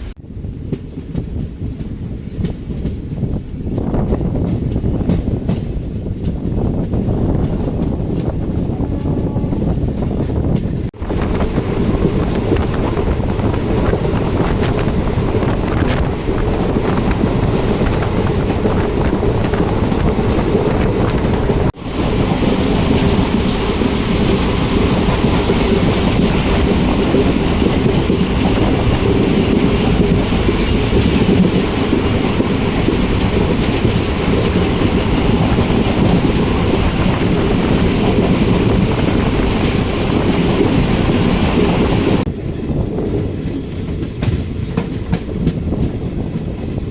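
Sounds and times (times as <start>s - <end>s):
train rumbling on track: 0.0s - 46.9s
wheels clattering over rails: 4.1s - 42.6s.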